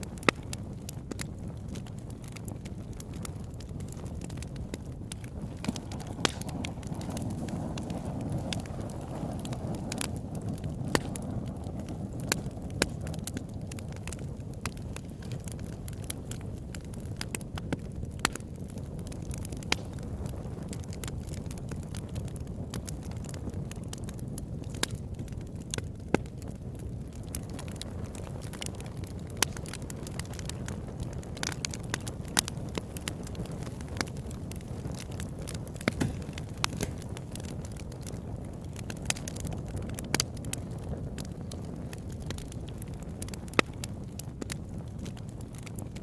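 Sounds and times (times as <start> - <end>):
burning wood crackling and popping: 0.0 - 46.0
campfire low rumble: 0.0 - 46.0
loud snaps of fire: 0.0 - 46.0.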